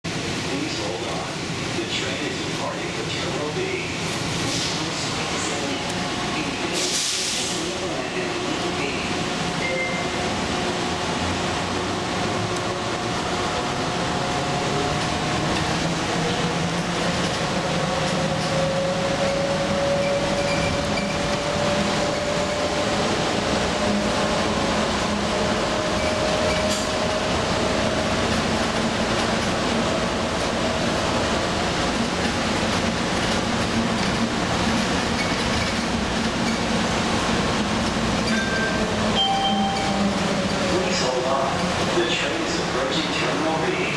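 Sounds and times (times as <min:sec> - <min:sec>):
train running rumble: 0:00.1 - 0:43.9.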